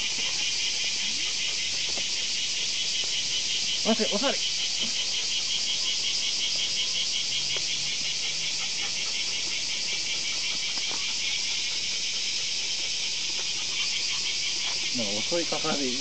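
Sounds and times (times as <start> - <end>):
insects buzzing shrilly: 0.0 - 16.0.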